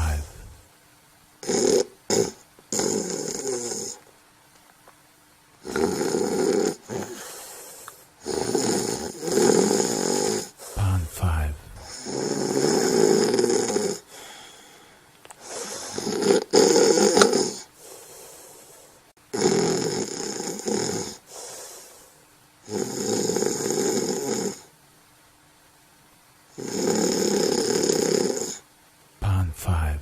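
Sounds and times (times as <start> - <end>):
person snoring: 0.0 - 0.6, 1.4 - 4.0, 5.6 - 24.7, 26.6 - 28.6.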